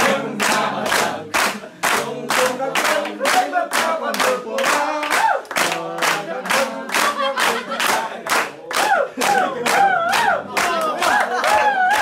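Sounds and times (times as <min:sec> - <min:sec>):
group clapping in time: 0:00.0 - 0:12.0
voices singing along: 0:00.0 - 0:12.0.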